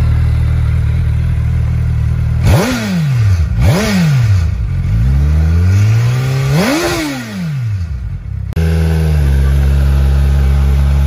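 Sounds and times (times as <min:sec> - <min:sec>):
motorcycle engine revving: 0:00.0 - 0:11.0
motorcycle idling: 0:00.0 - 0:11.0.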